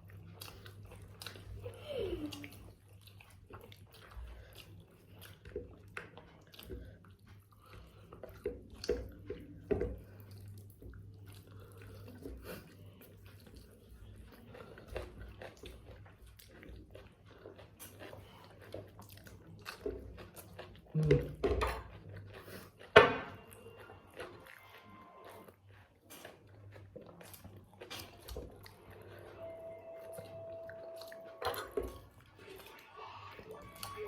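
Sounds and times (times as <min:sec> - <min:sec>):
people chewing food: 0:00.0 - 0:34.0.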